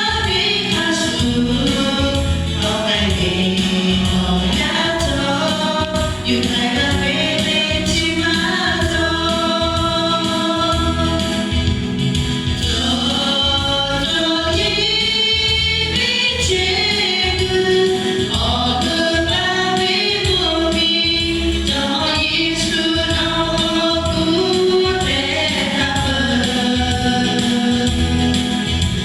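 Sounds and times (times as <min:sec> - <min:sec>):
church choir singing: 0:00.0 - 0:11.6, 0:12.6 - 0:28.8.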